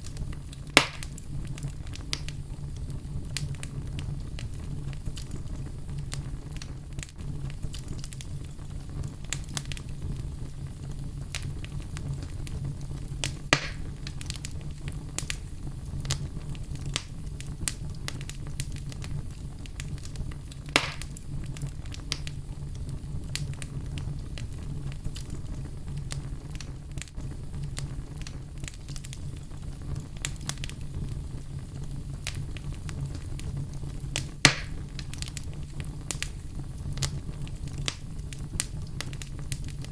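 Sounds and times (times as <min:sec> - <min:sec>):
fire crackling: 0:00.0 - 0:39.9
fire roaring: 0:00.0 - 0:39.9
loud fire pops: 0:00.0 - 0:39.9.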